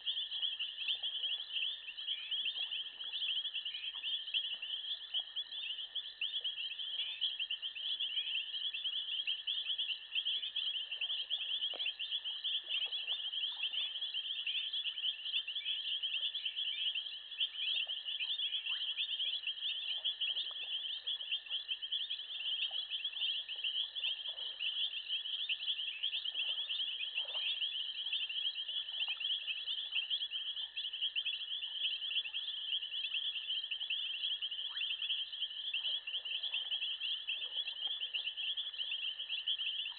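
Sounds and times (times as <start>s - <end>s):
faint lower insect calls: 0.0s - 39.9s
low continuous tone: 0.0s - 39.9s.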